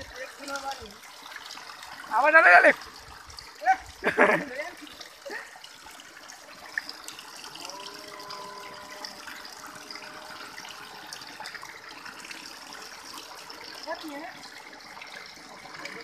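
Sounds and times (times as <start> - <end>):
water trickling from spouts: 0.0 - 16.0.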